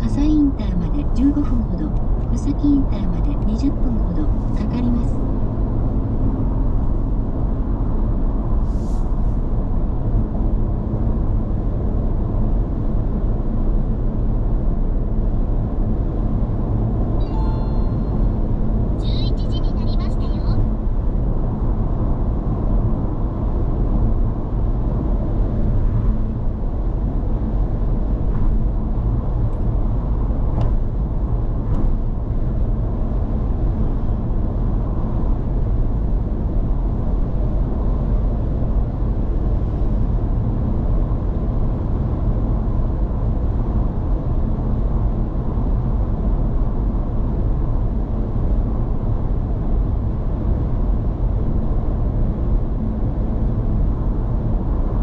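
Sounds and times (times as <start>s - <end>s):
road and tyre rumble in car cabin: 0.0s - 55.0s.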